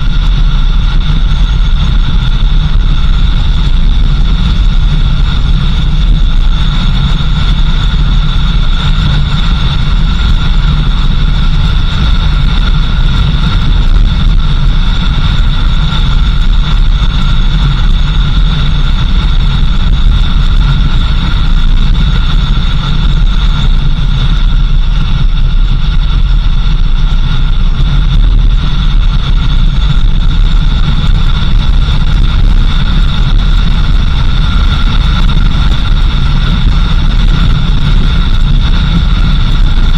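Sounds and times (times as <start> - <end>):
constant high whine: 0.0 - 39.9
vehicle engine and road rumble: 0.0 - 39.9.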